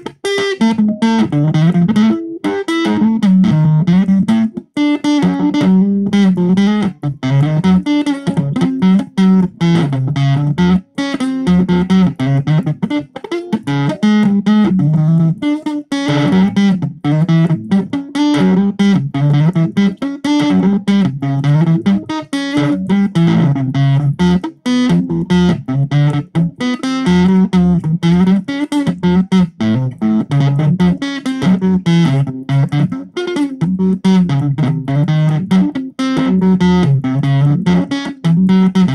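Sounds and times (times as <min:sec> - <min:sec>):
distorted electric guitar riff: 0:00.0 - 0:38.9.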